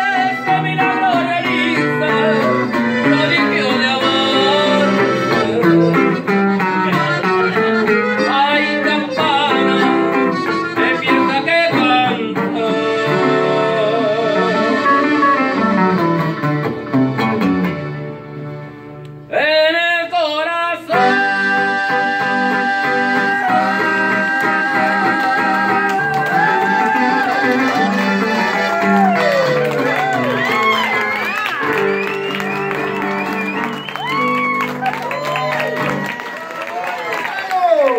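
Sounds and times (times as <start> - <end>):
button accordion: 0.0 - 19.3, 21.0 - 34.0
twelve-string guitar strumming: 0.0 - 19.4, 20.9 - 35.0.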